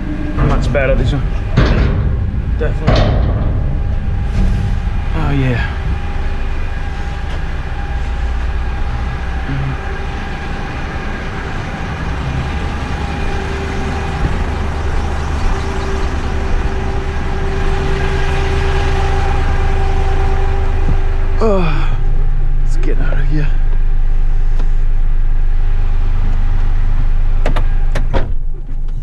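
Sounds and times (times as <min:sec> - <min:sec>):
diesel engine rumbling: 0:00.0 - 0:29.0
steady engine whine: 0:00.0 - 0:29.0.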